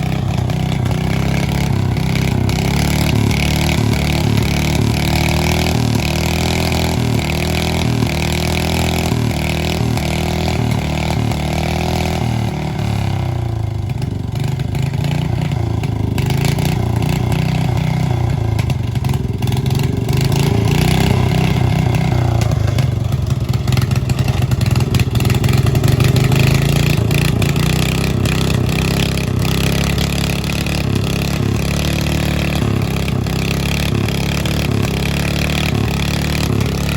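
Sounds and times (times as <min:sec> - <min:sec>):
lawn mower engine revving: 0:00.0 - 0:36.9.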